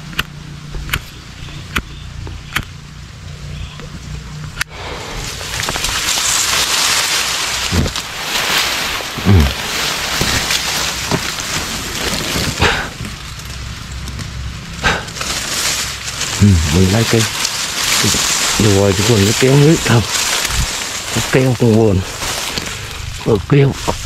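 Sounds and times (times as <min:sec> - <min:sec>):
leaves and grass rustling: 0:00.0 - 0:24.0
twigs snapping: 0:04.5 - 0:24.0.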